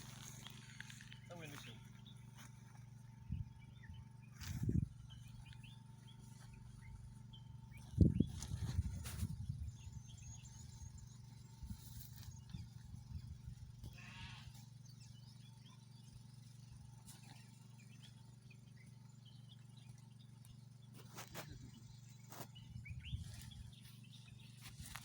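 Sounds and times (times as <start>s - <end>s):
bird chirps: 0.0s - 25.0s
steady low hum: 0.0s - 25.0s.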